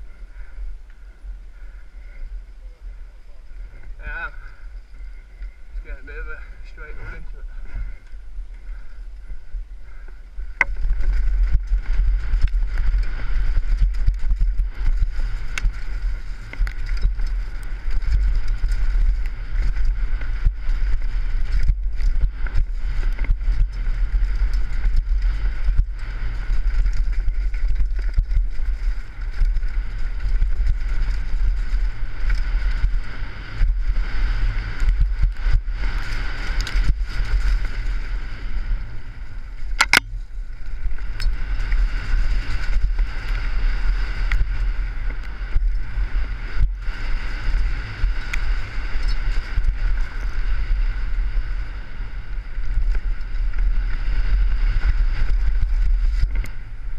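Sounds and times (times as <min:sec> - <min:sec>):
bike rattling: 0:00.0 - 0:56.9
bike tyre noise: 0:00.0 - 0:56.9
wind rumble on microphone: 0:00.0 - 0:56.9.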